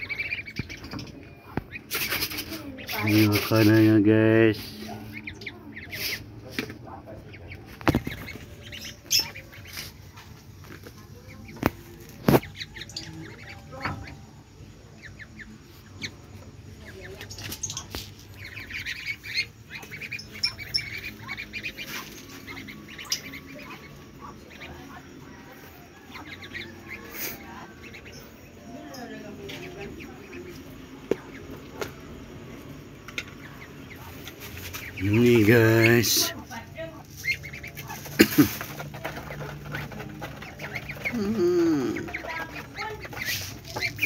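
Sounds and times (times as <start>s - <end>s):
ducklings peeping: 0.0s - 44.0s.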